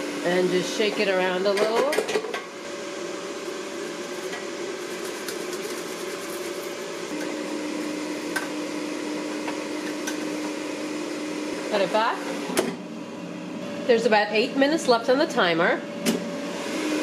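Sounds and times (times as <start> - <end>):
air fryer fan whirring: 0.0 - 17.0.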